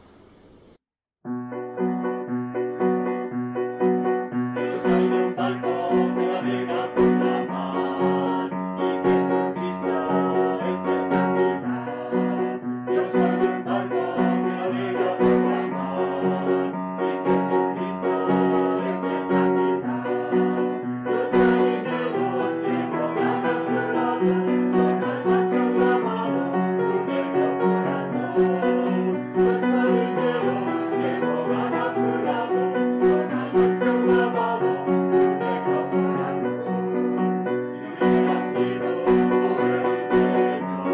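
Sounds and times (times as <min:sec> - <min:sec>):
piano accompaniment: 0:01.2 - 0:40.9
group singing: 0:04.6 - 0:40.9.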